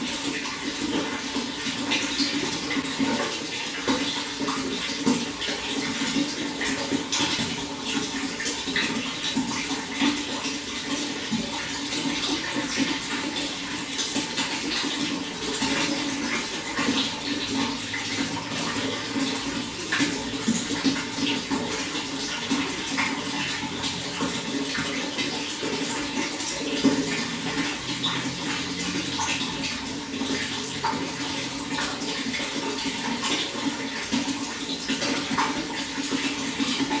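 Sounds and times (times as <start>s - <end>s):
running water: 0.0s - 37.0s
water splashes and drips: 0.0s - 37.0s.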